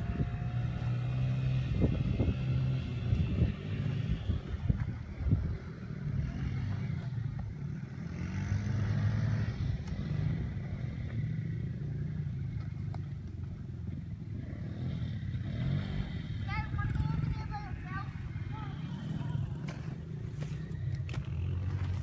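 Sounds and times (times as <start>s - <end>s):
dirt bike engine revving: 0.0s - 12.4s, 14.2s - 22.0s.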